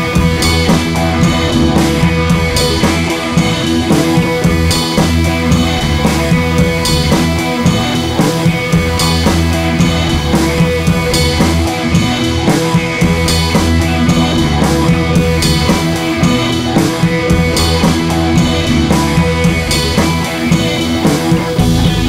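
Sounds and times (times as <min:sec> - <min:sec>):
rock music with drums and guitar: 0:00.0 - 0:22.0.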